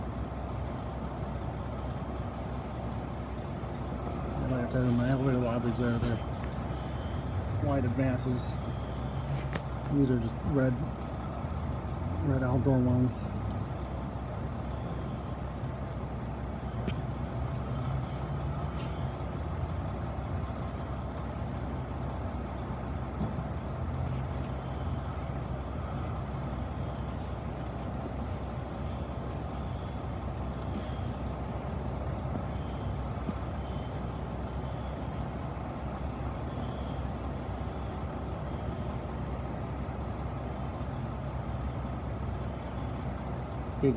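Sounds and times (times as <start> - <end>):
idling vehicle engine rumble: 0.0 - 43.9.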